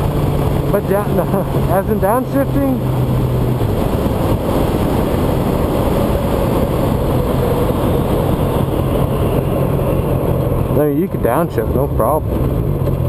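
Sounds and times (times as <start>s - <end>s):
motorcycle engine running: 0.0s - 13.0s
wind rushing on microphone: 0.0s - 13.0s.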